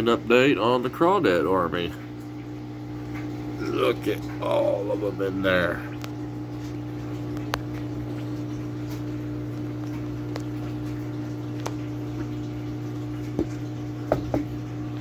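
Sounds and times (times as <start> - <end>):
air pump humming: 0.0 - 15.0.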